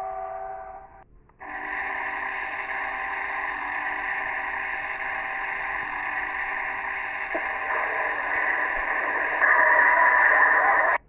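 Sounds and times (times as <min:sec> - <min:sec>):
steam locomotive whistle: 0:00.0 - 0:10.8.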